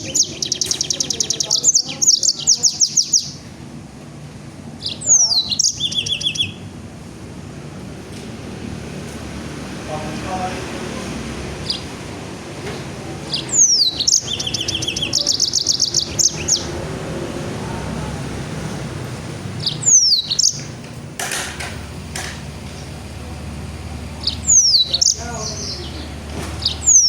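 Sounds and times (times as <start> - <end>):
songbird singing rapid phrases: 0.0 - 3.8, 4.4 - 6.8, 9.5 - 21.2, 21.8 - 27.0.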